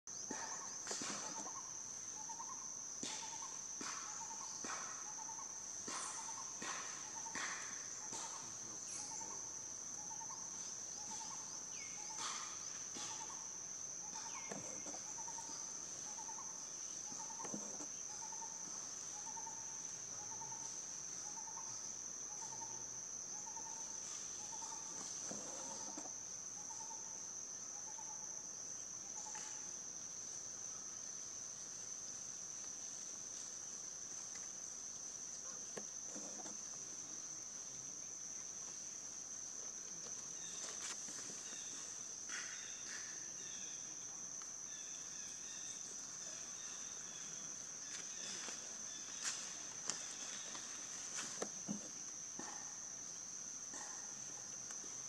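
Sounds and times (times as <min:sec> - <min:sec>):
insects droning: 0:00.1 - 0:55.0.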